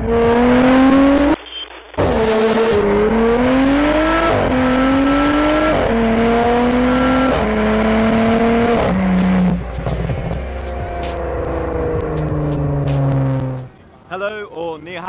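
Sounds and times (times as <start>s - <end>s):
car accelerating through gears: 0.0s - 1.4s, 2.0s - 13.7s.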